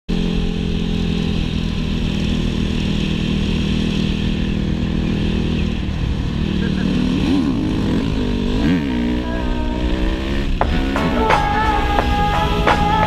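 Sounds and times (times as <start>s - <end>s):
dirt bike engine running: 0.1s - 13.0s.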